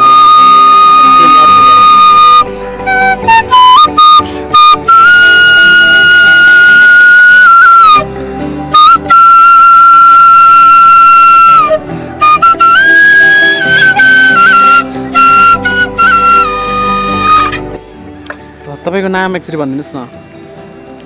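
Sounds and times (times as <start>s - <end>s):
flute-like held notes: 0.0s - 8.1s, 8.7s - 17.9s.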